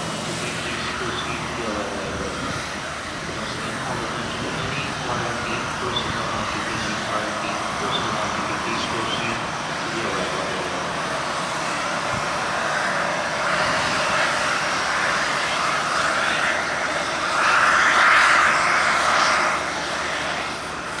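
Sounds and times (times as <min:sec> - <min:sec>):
airliner jet engines: 0:00.0 - 0:21.0.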